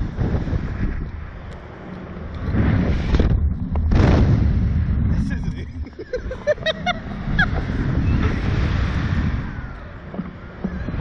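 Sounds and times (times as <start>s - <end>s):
air rushing over microphone: 0.0s - 11.0s.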